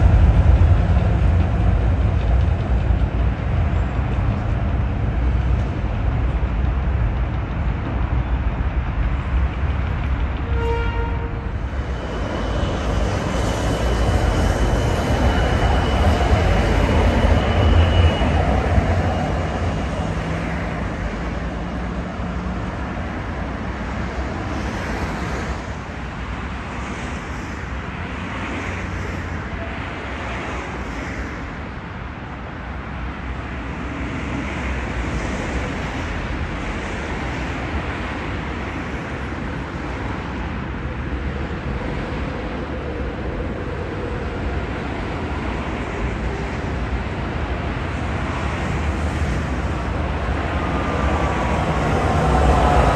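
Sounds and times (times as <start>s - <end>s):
street traffic noise: 0.0s - 52.9s
tram rumbling past: 0.0s - 52.9s.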